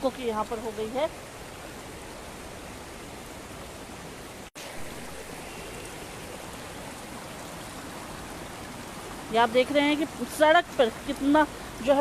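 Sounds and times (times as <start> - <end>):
floodwater rushing along road: 0.0 - 12.0.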